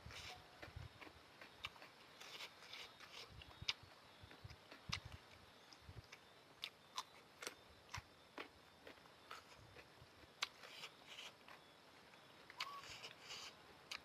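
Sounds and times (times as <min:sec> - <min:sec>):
person chewing noodles: 0:00.0 - 0:11.7, 0:12.4 - 0:14.0.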